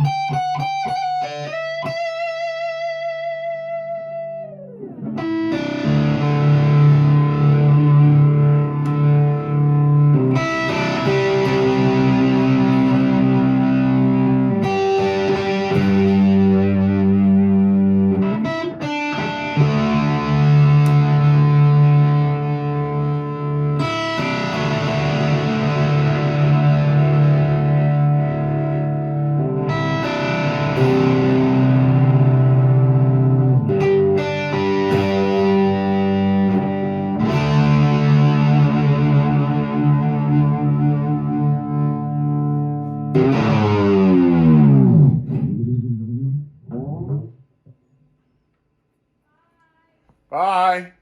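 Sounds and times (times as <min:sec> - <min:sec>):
overdriven electric guitar: 0:00.0 - 0:48.0.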